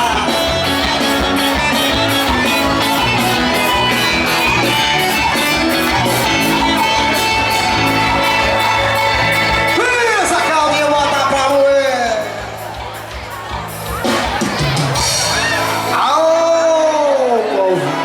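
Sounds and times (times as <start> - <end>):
loud guitar music with beat: 0.0 - 18.0.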